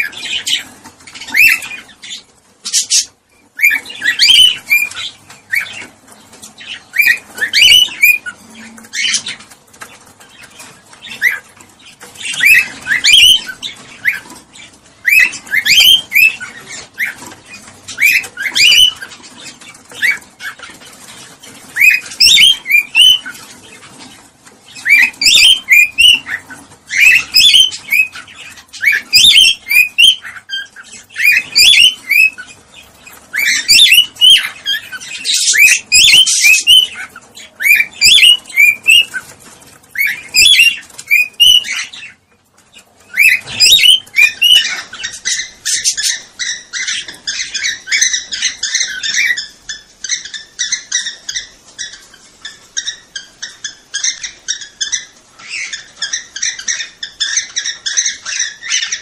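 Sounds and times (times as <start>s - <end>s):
cockatiels chirping and warbling: 0.0s - 59.0s.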